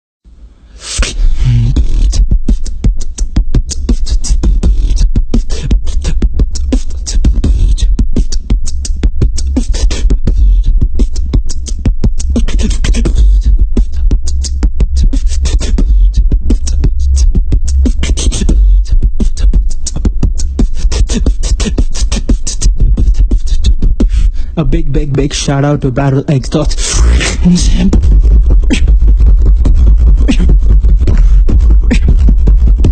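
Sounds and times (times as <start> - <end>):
deep bass: 0.2 - 32.9
beatboxing vocal percussion: 0.7 - 32.9.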